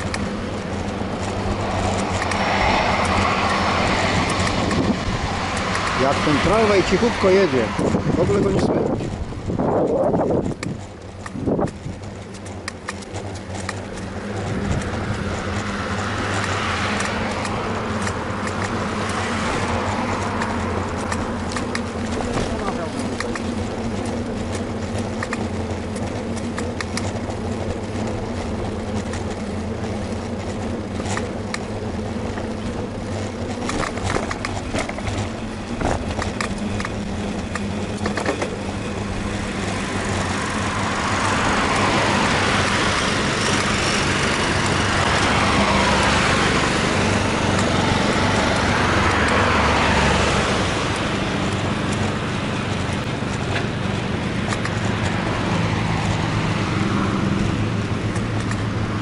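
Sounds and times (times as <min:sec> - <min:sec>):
vehicle passing close by: 0:00.0 - 0:11.9, 0:13.5 - 0:24.8, 0:27.0 - 0:53.0, 0:53.8 - 0:59.0
bicycle clicks: 0:00.0 - 0:59.0
low traffic rumble: 0:00.0 - 0:59.0.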